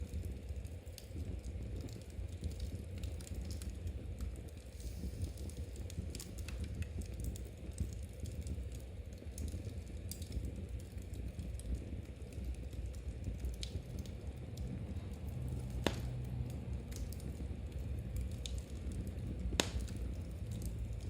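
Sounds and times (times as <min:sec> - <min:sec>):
wood fire rumbling and crackling: 0:00.0 - 0:21.0.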